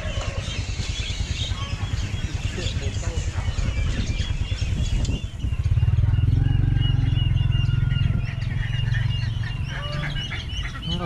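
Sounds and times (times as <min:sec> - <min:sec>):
birds chirping: 0:00.0 - 0:11.0
small engine running: 0:00.0 - 0:11.0.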